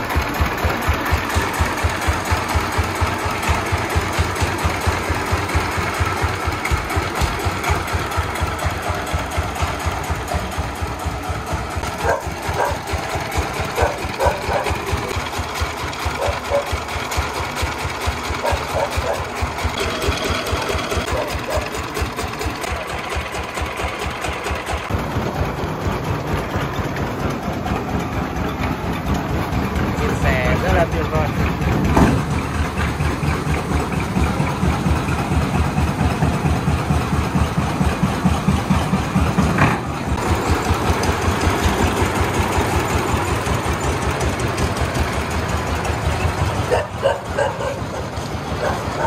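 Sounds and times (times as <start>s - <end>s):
diesel engine chugging: 0.0s - 49.0s.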